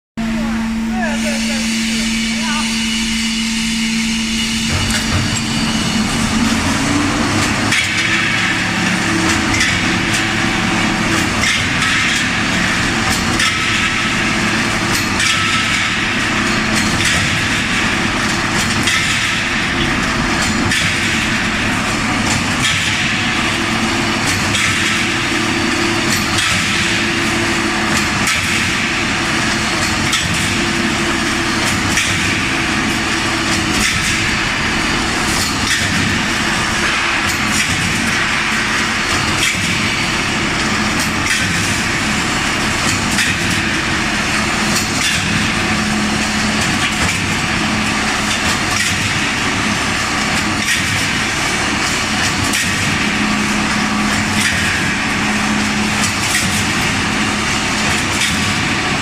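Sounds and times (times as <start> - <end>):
machine motor hum: 0.2 - 59.0.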